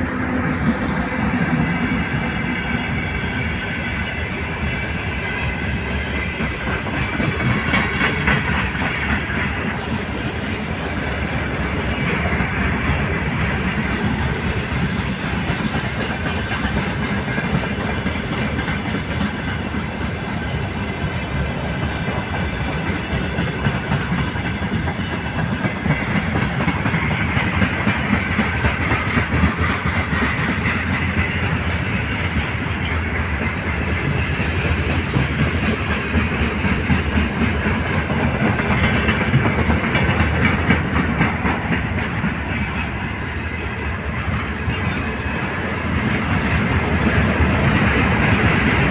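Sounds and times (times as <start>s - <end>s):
freight train wheels clattering: 0.0s - 48.9s.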